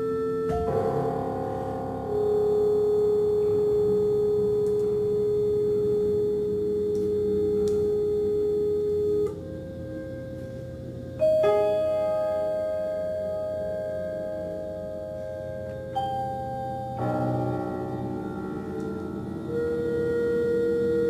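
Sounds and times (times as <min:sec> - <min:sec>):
held pure note: 0:00.0 - 0:21.0.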